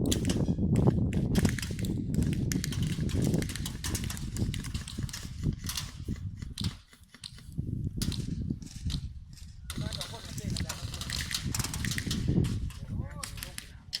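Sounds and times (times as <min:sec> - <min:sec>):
quick irregular clicks and knocks: 0:00.0 - 0:14.0.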